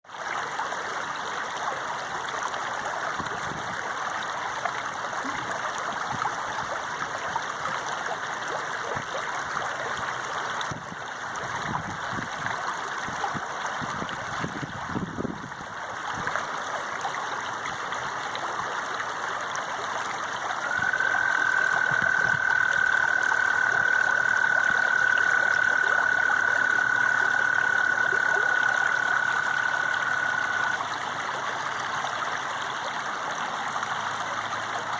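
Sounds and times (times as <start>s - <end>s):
water rushing: 0.1s - 34.9s.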